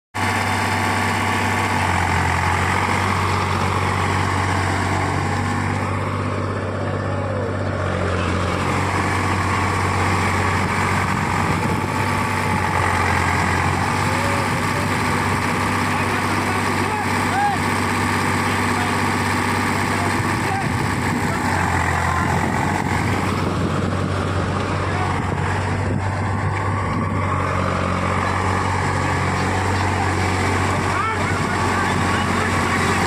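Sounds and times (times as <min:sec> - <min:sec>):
diesel tractor engine running: 0:00.2 - 0:33.0.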